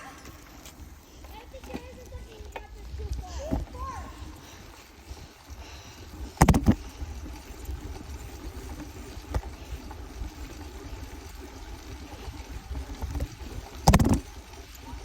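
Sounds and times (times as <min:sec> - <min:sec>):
wind and riding noise: 0:00.0 - 0:15.0.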